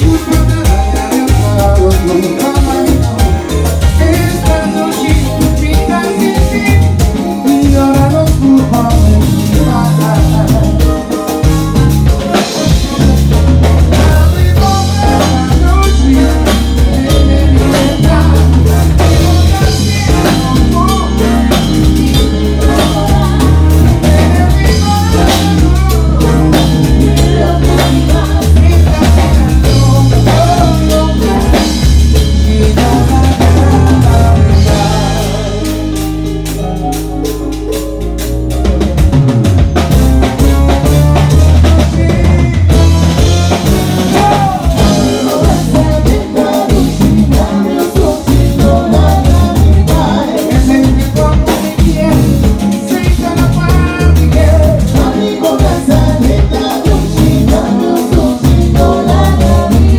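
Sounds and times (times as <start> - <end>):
people singing: 0.0 - 36.2, 39.8 - 59.9
bass: 0.0 - 59.9
drum kit beat: 0.0 - 59.9
keyboards and guitar: 0.0 - 59.9.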